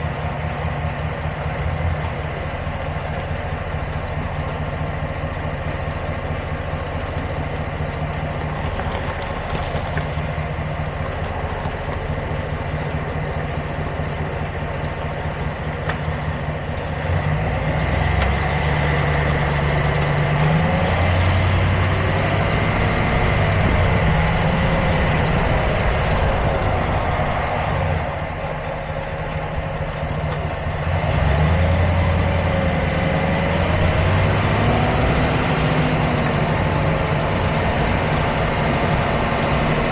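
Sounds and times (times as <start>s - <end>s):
vehicle engine idling and revving: 0.0s - 39.9s.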